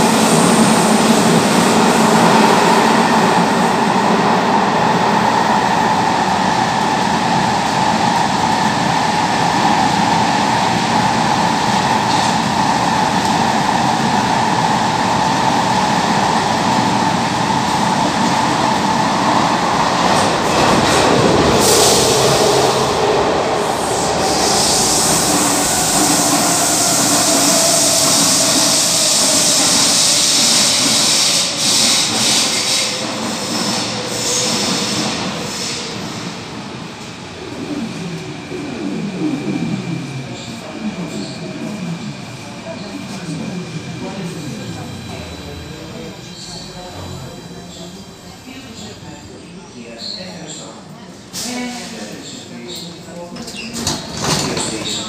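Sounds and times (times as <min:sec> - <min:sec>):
train wheel and rail noise: 0:00.0 - 0:55.0.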